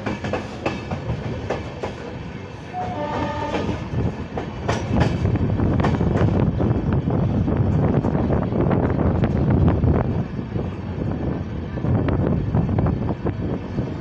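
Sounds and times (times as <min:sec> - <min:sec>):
train rumbling on track: 0:00.0 - 0:14.0
wind: 0:00.0 - 0:14.0.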